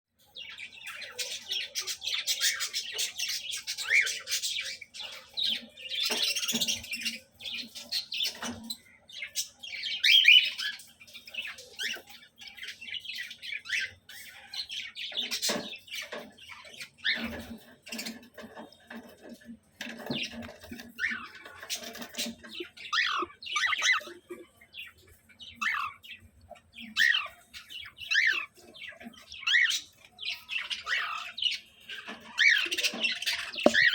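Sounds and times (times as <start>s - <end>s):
cockatiels squawking and chirping: 0.2s - 33.9s.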